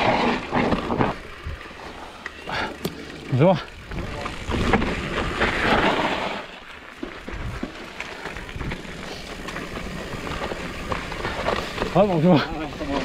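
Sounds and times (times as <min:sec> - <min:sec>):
bike clicks and rattles: 0:00.0 - 0:13.0.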